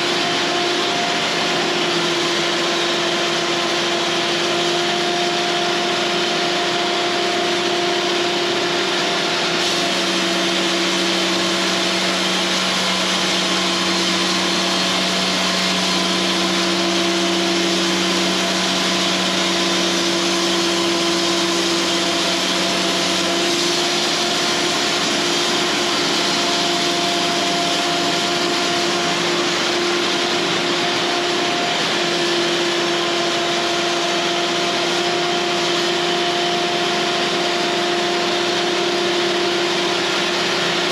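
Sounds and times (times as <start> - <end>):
band sawmill sawing wood: 0.0 - 40.9.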